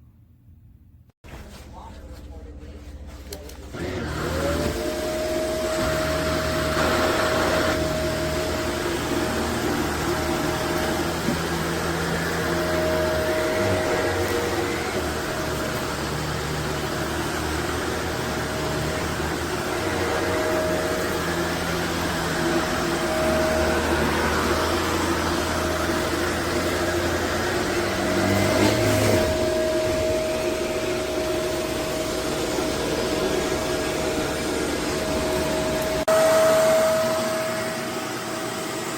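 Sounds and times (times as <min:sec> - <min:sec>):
vacuum cleaner running: 0:01.3 - 0:38.9.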